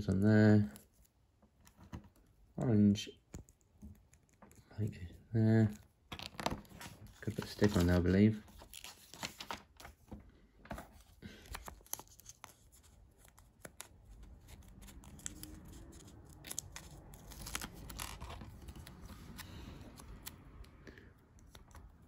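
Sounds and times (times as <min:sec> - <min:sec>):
sticker rustling and scratching: 0:00.5 - 0:02.5, 0:03.2 - 0:20.7.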